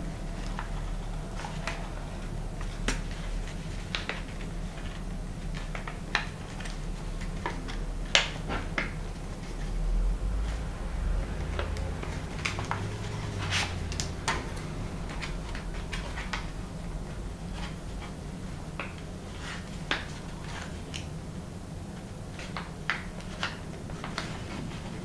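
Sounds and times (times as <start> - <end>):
paper rustling and crackling: 0.0 - 25.0
steady low hum: 0.0 - 25.0.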